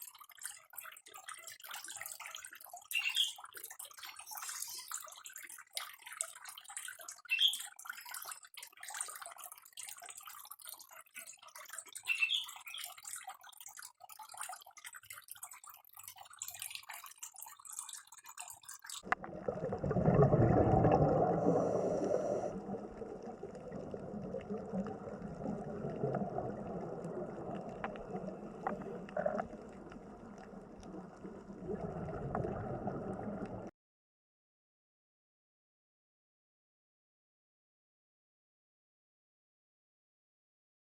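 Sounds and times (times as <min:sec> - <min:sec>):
water trickling and gurgling: 0:00.0 - 0:33.7.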